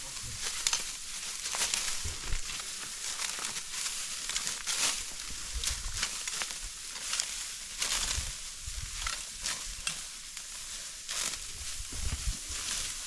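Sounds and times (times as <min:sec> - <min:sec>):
dry wheat stalks rustling: 0:00.0 - 0:13.0.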